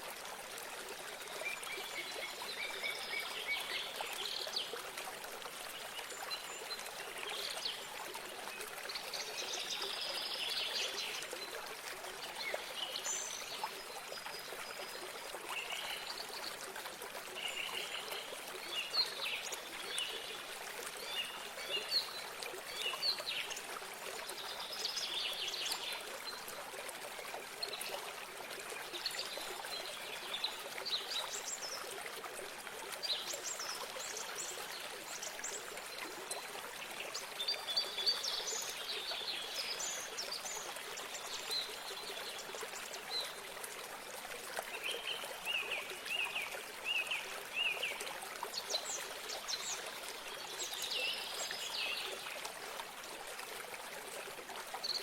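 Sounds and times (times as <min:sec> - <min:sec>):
small stream trickling: 0:00.0 - 0:55.0.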